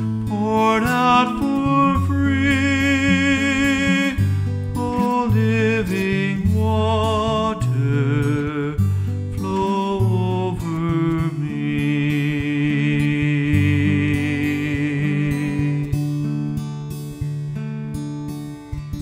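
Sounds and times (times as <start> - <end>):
man singing with vibrato: 0.0 - 16.4
acoustic guitar: 0.0 - 19.0.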